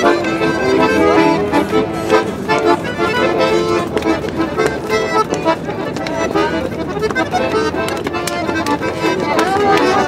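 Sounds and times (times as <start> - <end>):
accordions playing a tune: 0.0 - 10.0.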